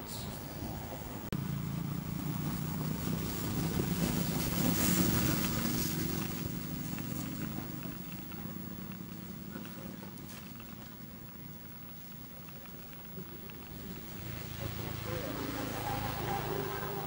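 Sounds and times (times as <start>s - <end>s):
engine hum: 0.0s - 17.0s.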